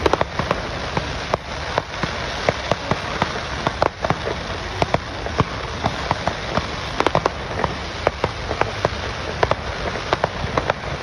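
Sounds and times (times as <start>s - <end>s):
fireworks crackling hiss: 0.0s - 11.0s
fireworks sharp pops: 0.0s - 11.0s.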